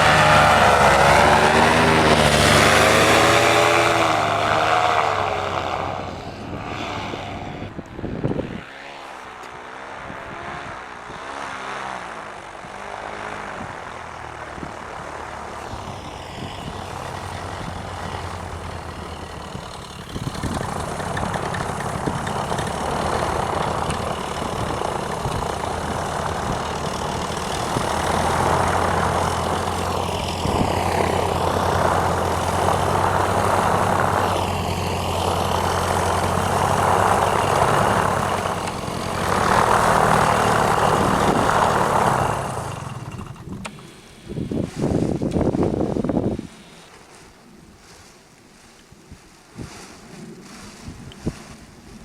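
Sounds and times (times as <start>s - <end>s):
paramotor engine droning: 0.0s - 48.1s.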